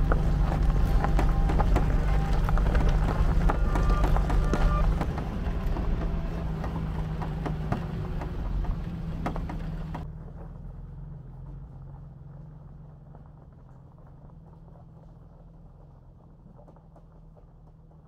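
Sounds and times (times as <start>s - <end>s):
car engine running: 0.0s - 18.0s
tyres crackling on gravel: 0.0s - 18.0s.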